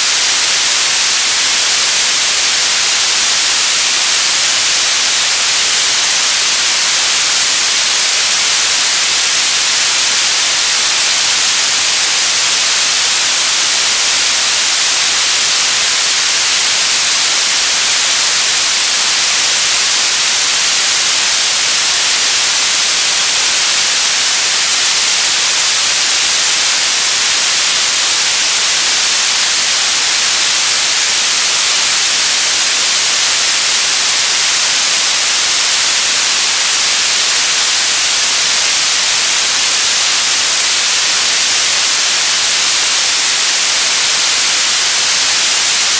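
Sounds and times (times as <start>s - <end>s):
radio static hiss: 0.0s - 45.9s.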